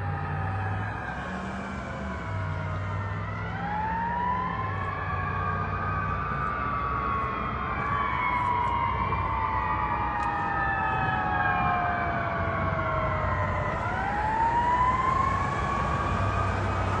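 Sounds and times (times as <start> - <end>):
fire engine sirens wailing: 0.0 - 17.0
rumble of trucks: 0.0 - 17.0.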